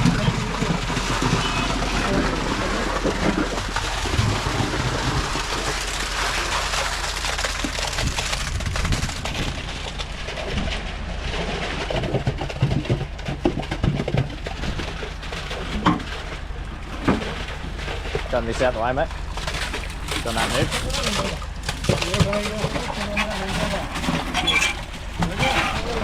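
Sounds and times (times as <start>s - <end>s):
low pump hum: 0.0s - 26.0s
wet concrete pouring and splattering: 0.0s - 26.0s.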